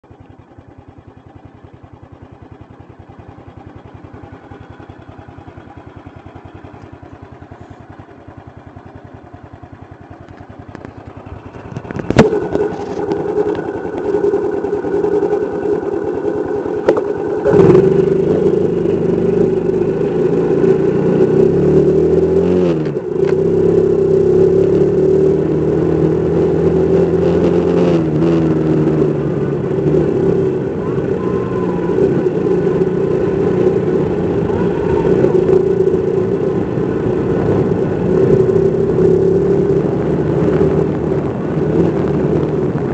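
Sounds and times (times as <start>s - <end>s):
motorcycle engine: 0.0s - 42.9s.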